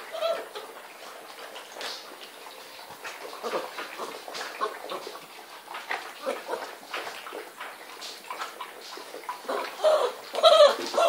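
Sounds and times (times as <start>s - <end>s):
puppies lapping food: 0.0s - 11.0s.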